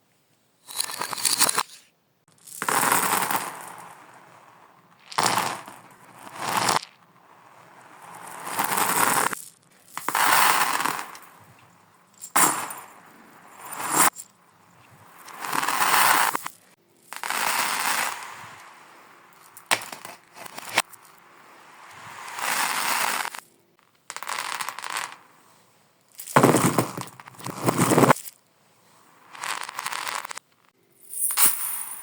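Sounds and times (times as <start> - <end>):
reversed marbles rolling and clattering: 0.7 - 25.4, 26.1 - 28.4, 29.1 - 32.0.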